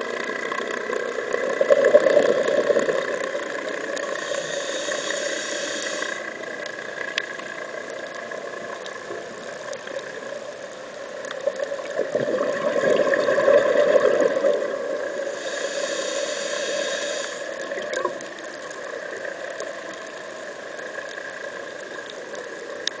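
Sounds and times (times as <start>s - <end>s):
muffled underwater drone with hiss: 0.0s - 23.0s.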